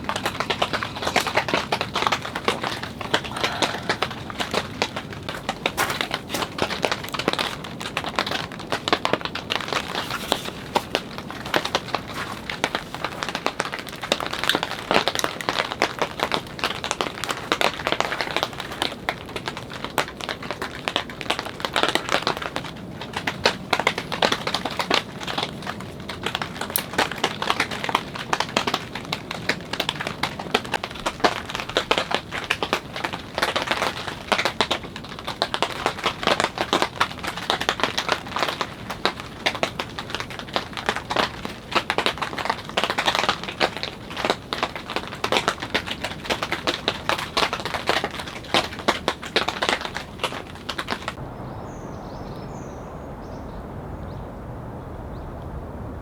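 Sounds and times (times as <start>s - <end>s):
rain on tent fabric: 0.0s - 53.5s.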